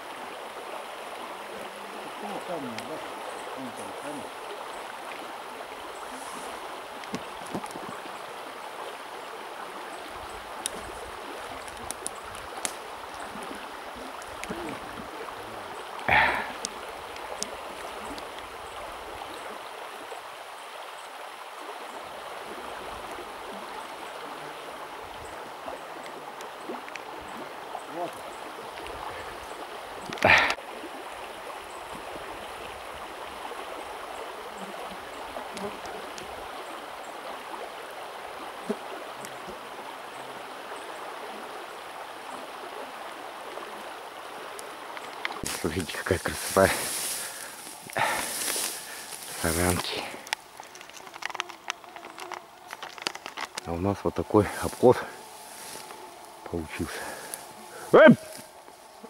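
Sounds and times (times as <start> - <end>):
river water flowing over stones: 0.0 - 59.0.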